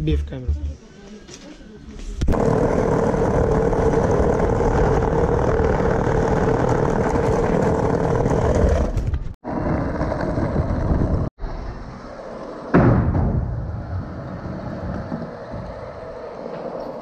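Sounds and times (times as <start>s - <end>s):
small wheels rolling on paving: 2.3s - 12.7s, 13.8s - 17.0s.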